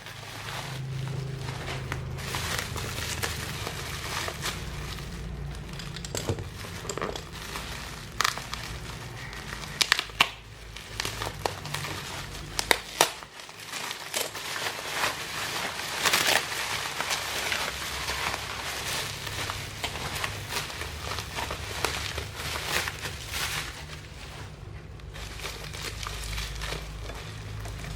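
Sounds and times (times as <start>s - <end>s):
plastic packaging crinkling: 0.0s - 27.9s.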